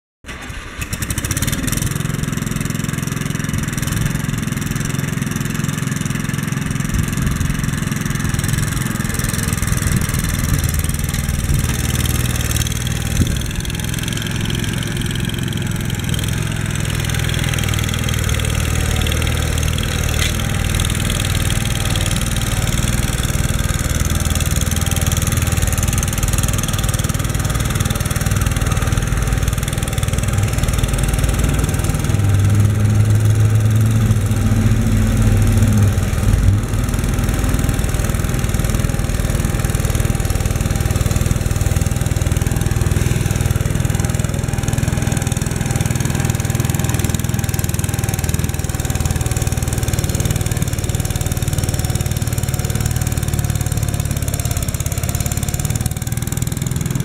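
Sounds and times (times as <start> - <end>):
snow thrower engine running: 0.3 - 57.0.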